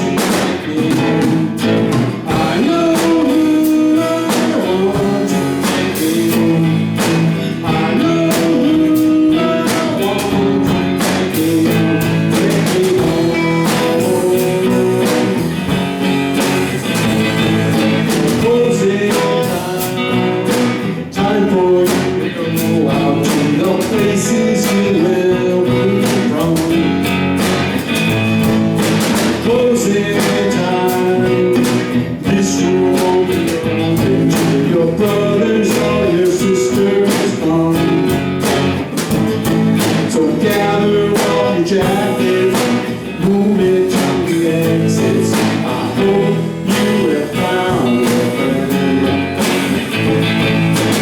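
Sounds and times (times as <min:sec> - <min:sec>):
person singing: 0:00.0 - 0:27.7, 0:29.0 - 0:39.0, 0:39.7 - 0:51.0
live band playing pop-rock: 0:00.0 - 0:51.0.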